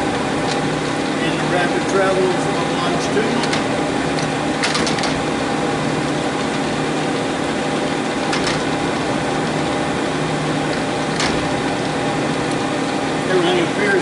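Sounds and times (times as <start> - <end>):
lathe running hum and whine: 0.0 - 14.0.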